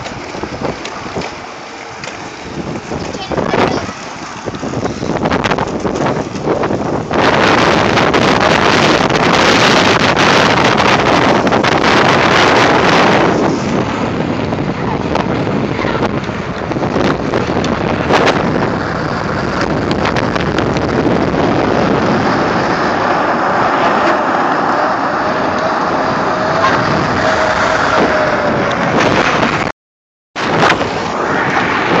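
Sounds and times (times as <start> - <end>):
bicycle tyres on asphalt: 0.0 - 29.7
wind on microphone: 0.0 - 29.7, 30.4 - 32.0.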